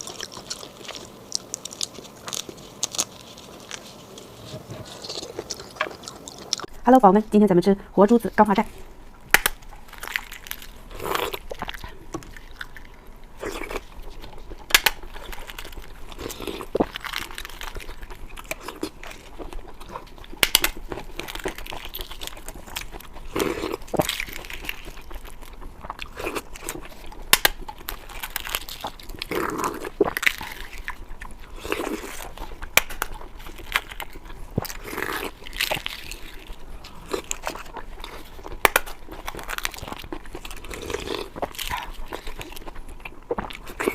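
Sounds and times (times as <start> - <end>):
crunching and wet chewing: 0.0 - 6.8, 8.6 - 43.9.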